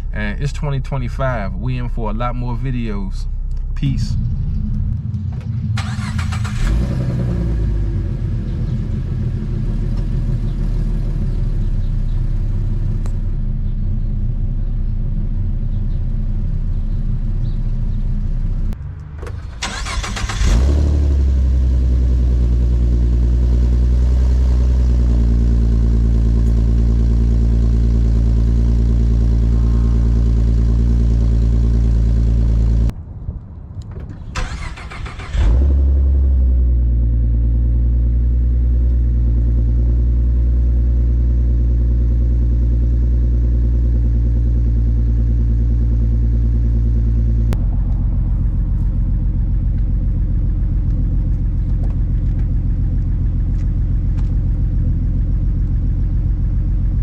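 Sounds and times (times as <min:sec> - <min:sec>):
car engine starting and idling: 0:00.0 - 0:33.0, 0:33.8 - 0:57.0.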